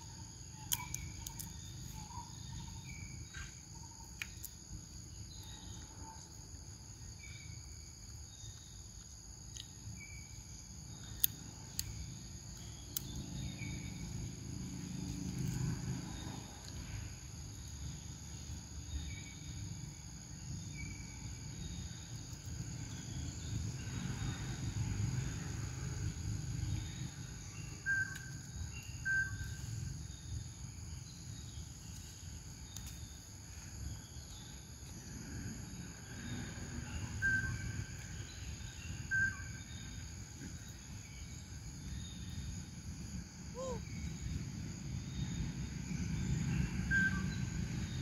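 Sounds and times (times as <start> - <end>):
high insect drone: 0.0 - 48.0.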